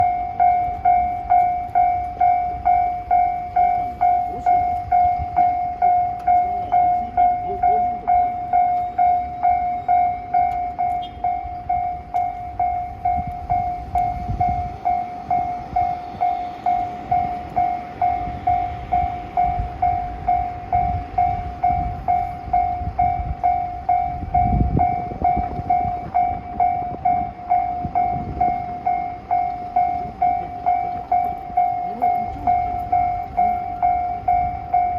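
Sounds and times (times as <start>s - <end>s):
level-crossing warning bell: 0.0s - 34.9s.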